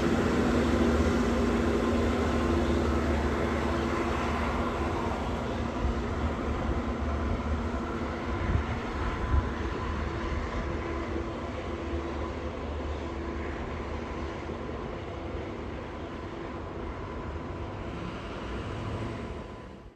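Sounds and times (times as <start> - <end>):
train wheels rumbling: 0.0 - 19.8
train engine hum: 0.0 - 19.9.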